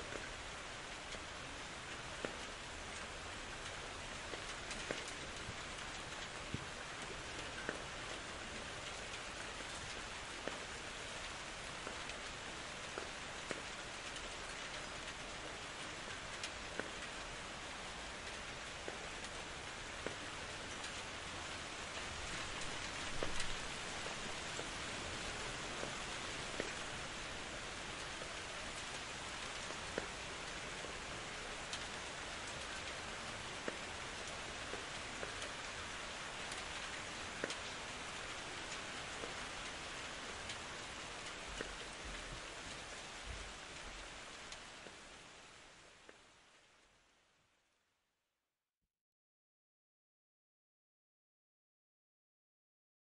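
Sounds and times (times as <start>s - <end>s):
steady rain hiss: 0.0s - 48.0s.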